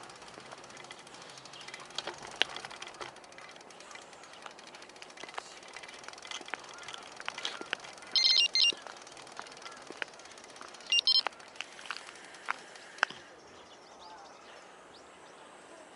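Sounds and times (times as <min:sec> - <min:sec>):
bicycle clicks and rattles: 0:00.0 - 0:13.4
bicycle ride noise: 0:00.0 - 0:15.9.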